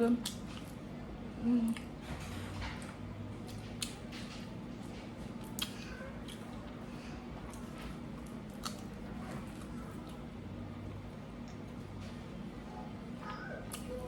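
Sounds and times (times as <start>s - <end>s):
steady low hum: 0.0s - 14.0s
chewing and wet mouth noises: 0.1s - 0.9s, 1.6s - 14.0s.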